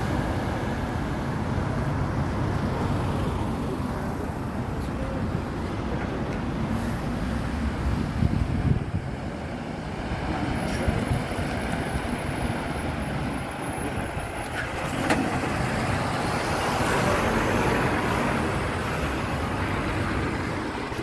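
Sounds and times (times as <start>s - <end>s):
tyre and road noise: 0.0s - 21.0s
truck diesel engine rumble: 3.8s - 21.0s.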